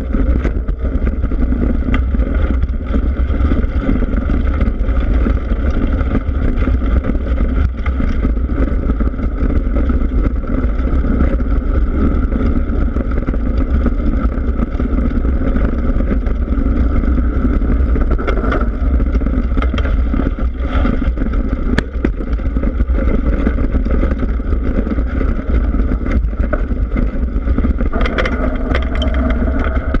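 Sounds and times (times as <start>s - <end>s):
bike knocks and rattles: 0.0s - 30.0s
bike tyre rumbling on gravel: 0.0s - 30.0s
wind on microphone: 0.0s - 30.0s.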